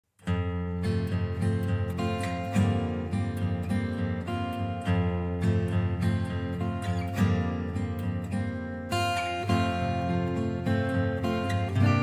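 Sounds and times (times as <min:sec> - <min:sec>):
acoustic guitar piece: 0:00.1 - 0:12.0.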